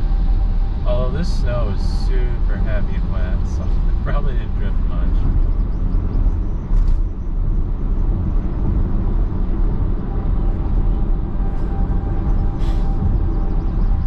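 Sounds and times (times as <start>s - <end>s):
car engine drone: 0.0s - 14.0s.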